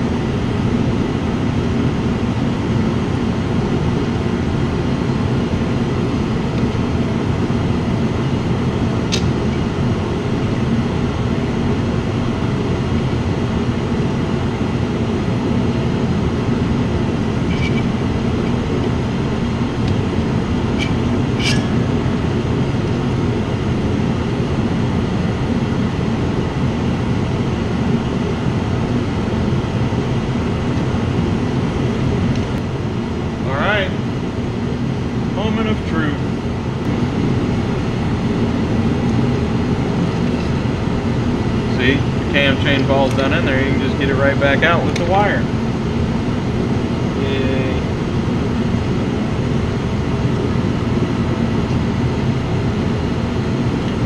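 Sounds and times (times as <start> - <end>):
low mechanical drone: 0.0 - 54.0.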